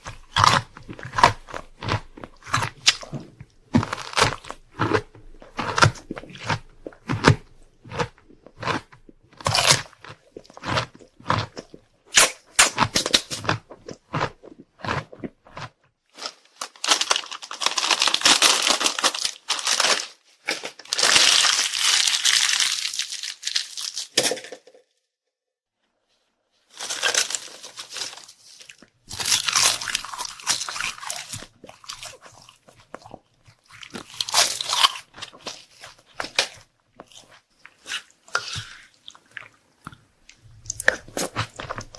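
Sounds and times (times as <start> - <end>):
crunching bites and chewing: 0.0 - 24.3, 26.8 - 41.9.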